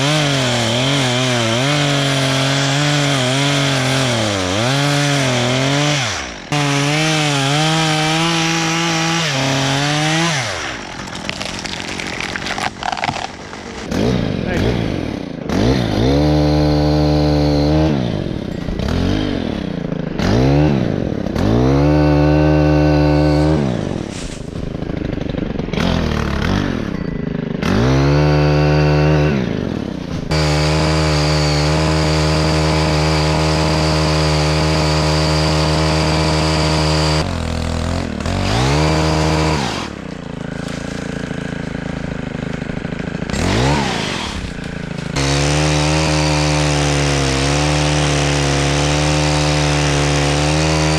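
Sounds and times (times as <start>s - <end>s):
chainsaw engine revving: 0.0s - 50.9s.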